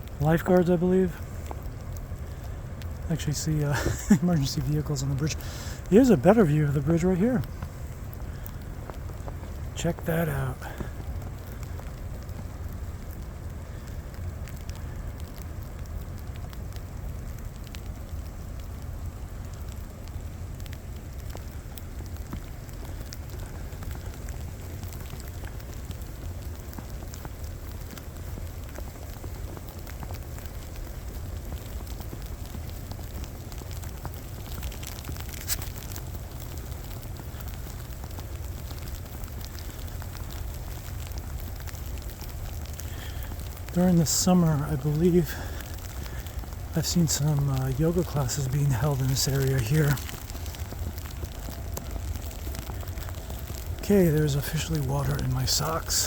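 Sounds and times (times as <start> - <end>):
fine irregular crackle: 0.0 - 56.0
low rumble: 1.1 - 56.0.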